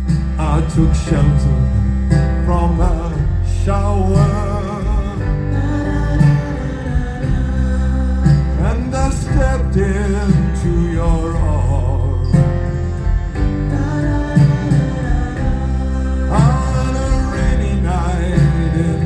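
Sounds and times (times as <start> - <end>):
live band playing slow ballad: 0.0 - 19.0
man singing: 0.0 - 19.0.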